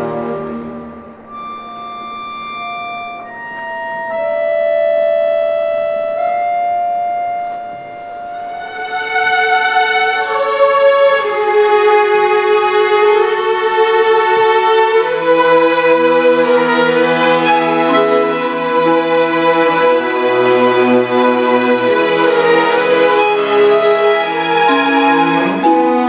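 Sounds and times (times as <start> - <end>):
low held notes: 0.0 - 26.0
orchestra playing slow chords: 0.0 - 26.0.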